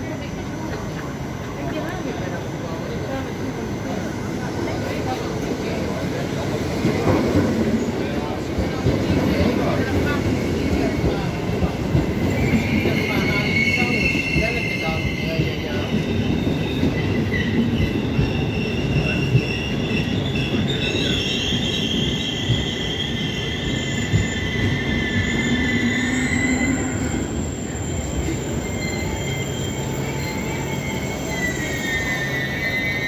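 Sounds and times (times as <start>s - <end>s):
train rumble: 0.0s - 33.0s
train wheels squealing: 0.7s - 33.0s.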